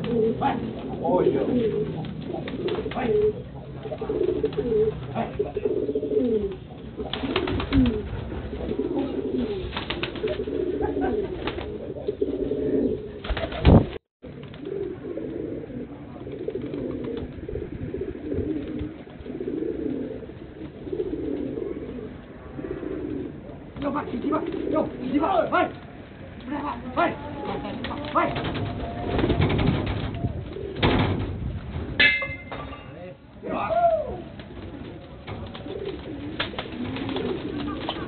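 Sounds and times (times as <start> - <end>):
pigeons cooing: 0.0 - 32.4, 33.5 - 38.0.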